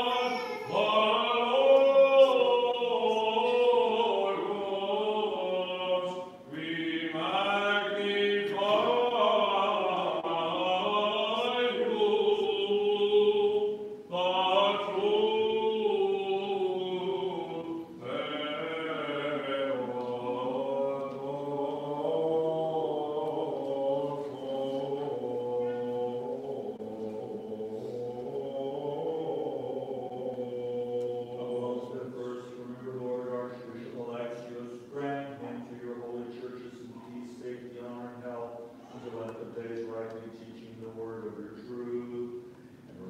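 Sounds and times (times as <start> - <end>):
unaccompanied liturgical chant: 0.0 - 43.0.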